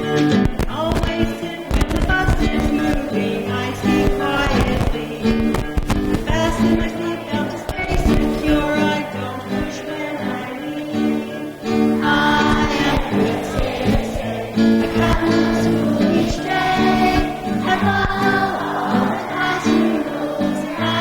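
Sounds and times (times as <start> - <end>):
children singing together: 0.0 - 21.0.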